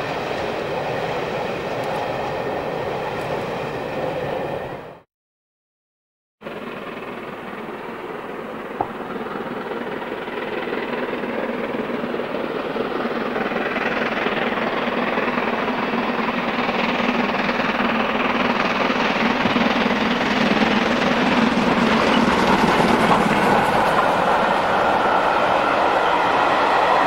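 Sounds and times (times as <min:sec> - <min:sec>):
steam locomotive working hard: 0:00.0 - 0:05.0, 0:06.4 - 0:27.0.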